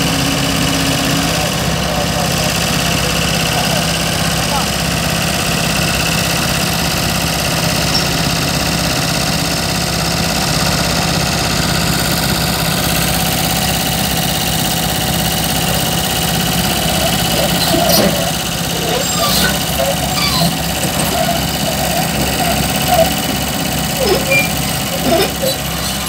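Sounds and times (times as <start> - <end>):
heavy diesel engine idling: 0.0 - 26.0.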